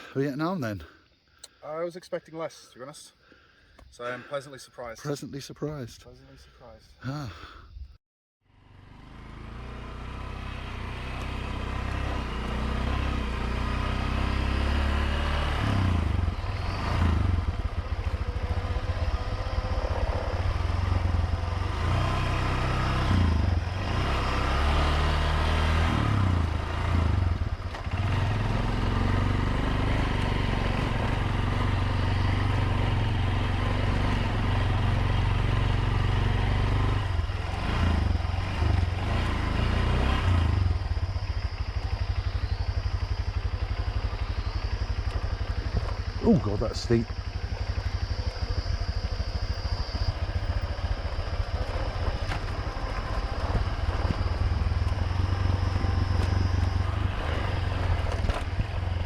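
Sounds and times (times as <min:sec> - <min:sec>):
motorbike engine running: 0:08.5 - 0:59.0
clatter from rough road: 0:09.0 - 0:59.0.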